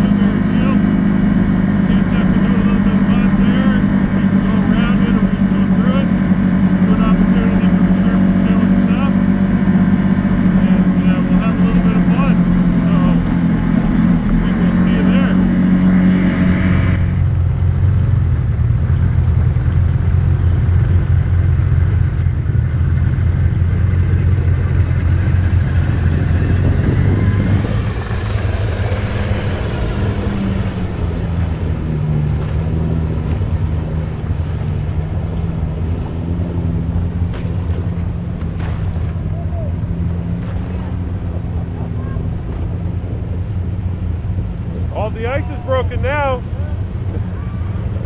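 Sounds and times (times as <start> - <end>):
higher wavering engine note: 0.0 - 18.0, 23.0 - 48.0
vehicle engine low drone: 0.0 - 48.0.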